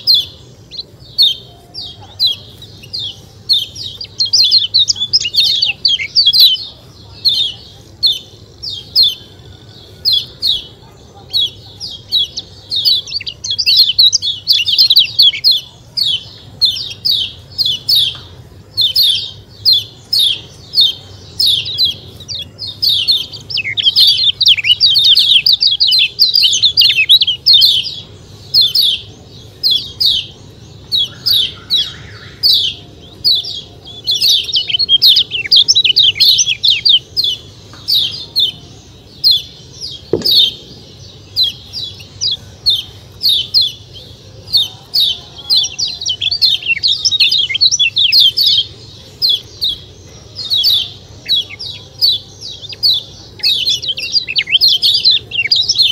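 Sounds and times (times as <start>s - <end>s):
bird chattering high chirps: 0.0s - 55.9s.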